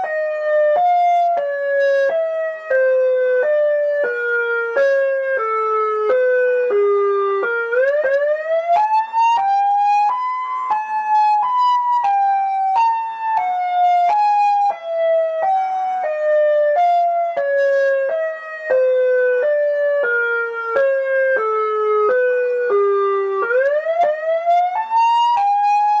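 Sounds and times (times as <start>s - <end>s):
swooping alarm tone: 0.0s - 26.0s.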